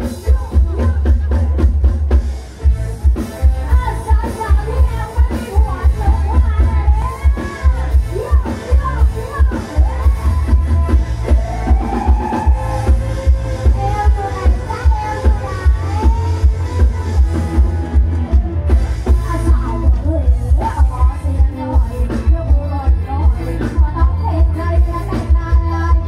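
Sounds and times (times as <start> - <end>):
woman singing into a microphone: 0.0 - 1.7, 3.6 - 26.0
heavy bass beat: 0.0 - 26.0
live band over loudspeakers: 0.0 - 26.0.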